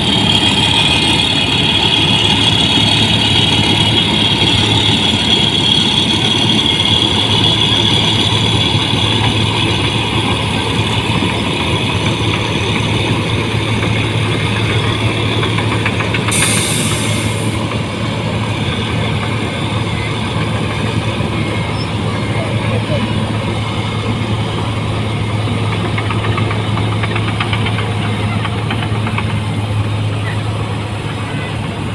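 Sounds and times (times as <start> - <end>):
combine harvester engine hum: 0.0 - 31.9.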